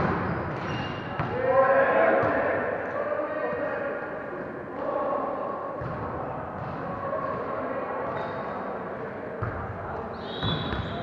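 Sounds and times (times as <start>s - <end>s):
echoing gym hall noise: 0.0s - 11.0s.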